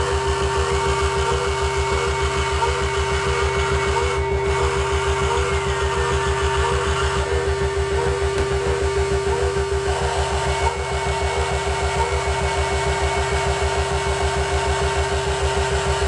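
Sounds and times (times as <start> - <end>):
steady synth drone: 0.0 - 16.0.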